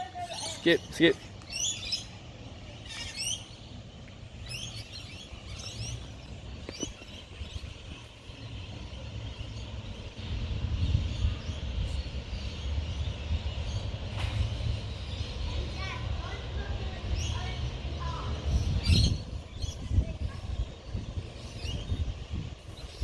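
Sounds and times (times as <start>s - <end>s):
low uneven rumble: 0.0s - 23.0s
small birds chirping: 0.0s - 23.0s.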